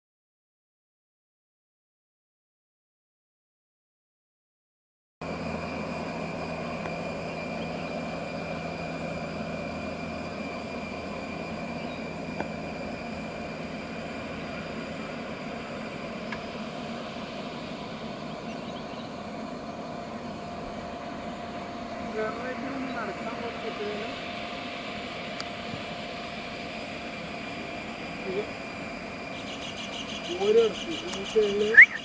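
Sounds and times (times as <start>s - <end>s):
distant jet engines running: 5.2s - 32.0s
high engine whine: 5.2s - 32.0s.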